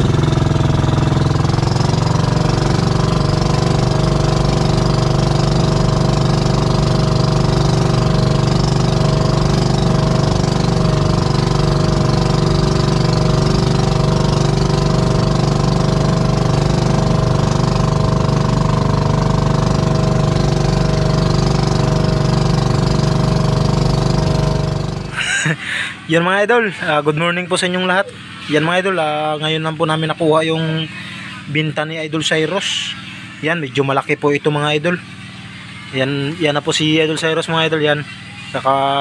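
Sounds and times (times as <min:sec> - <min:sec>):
boat engine running: 0:00.0 - 0:39.0.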